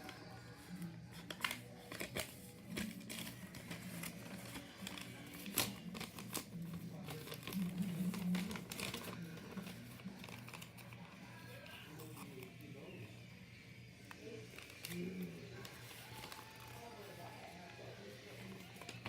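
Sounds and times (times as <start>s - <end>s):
paper crinkling: 0.0s - 13.2s, 14.0s - 19.0s.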